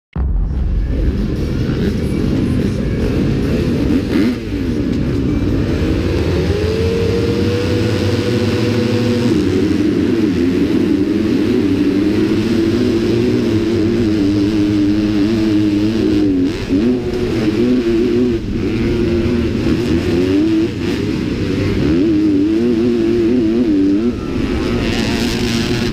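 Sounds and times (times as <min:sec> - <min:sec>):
motocross bike engine revving: 0:00.8 - 0:25.9.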